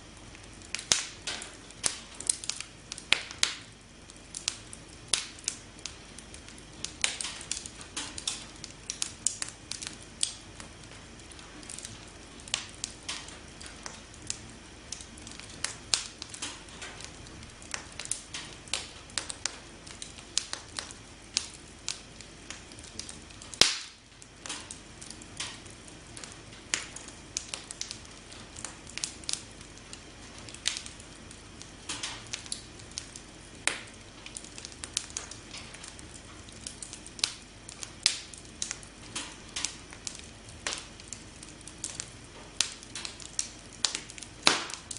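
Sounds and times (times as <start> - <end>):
low fire hiss: 0.0 - 44.9
campfire crackling and popping: 0.1 - 44.9.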